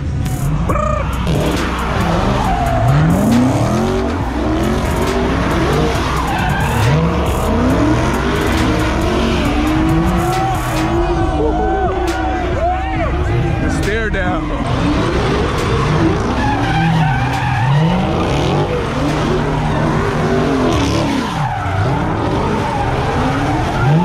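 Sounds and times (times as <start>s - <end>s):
car engine revving: 0.0s - 24.0s
tires squealing on pavement: 0.0s - 24.0s.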